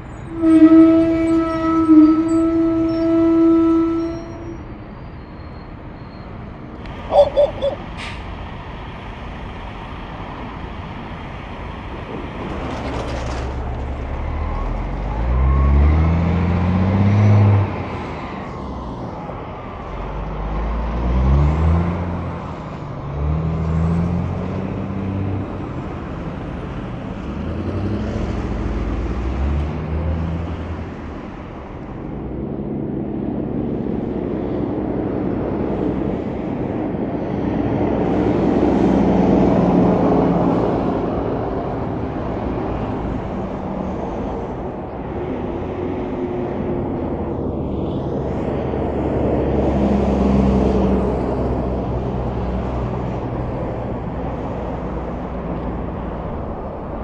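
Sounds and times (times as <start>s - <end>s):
semi-truck diesel engines: 0.0s - 57.0s.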